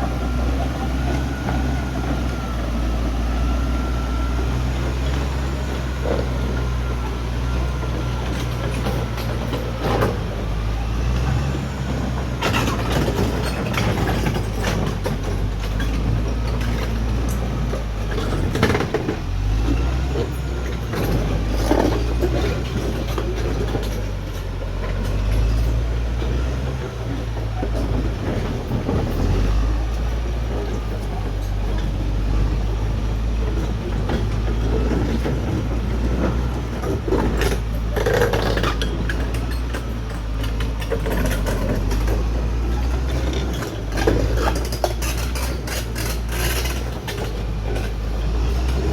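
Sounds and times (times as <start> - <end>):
bulldozer diesel engine running: 0.0 - 48.9.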